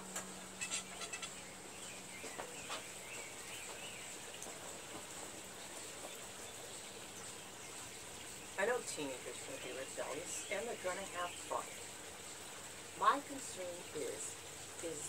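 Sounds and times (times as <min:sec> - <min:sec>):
birds chirping: 0:00.3 - 0:15.0.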